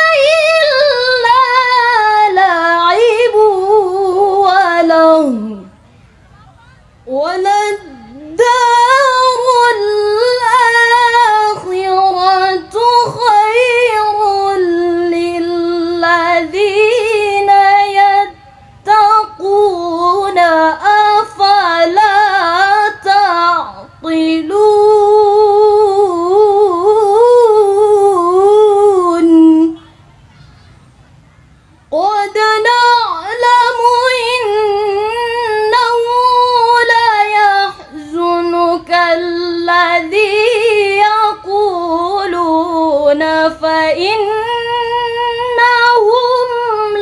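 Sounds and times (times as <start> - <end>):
woman reciting melodically: 0.0 - 30.5, 31.4 - 47.0.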